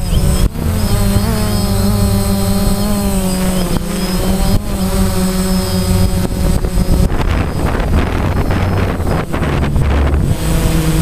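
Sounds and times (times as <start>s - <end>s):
drone propellers whining: 0.0s - 11.0s
wind on microphone: 0.0s - 11.0s.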